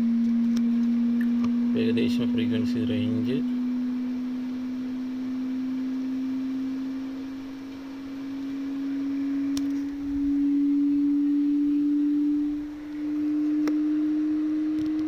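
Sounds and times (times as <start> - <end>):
sine wave test tone: 0.0 - 15.0.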